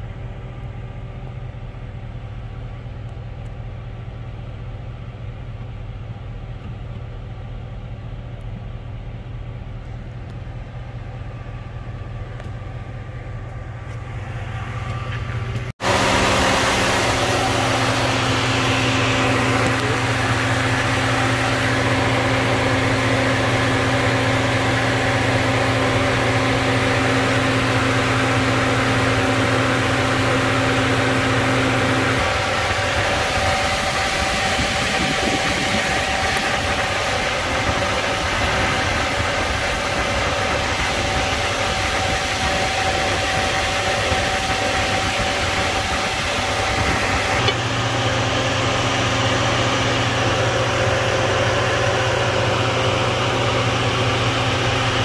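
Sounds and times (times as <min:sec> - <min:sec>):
car engine idling: 0:00.0 - 0:55.0
low hum: 0:00.0 - 0:55.0.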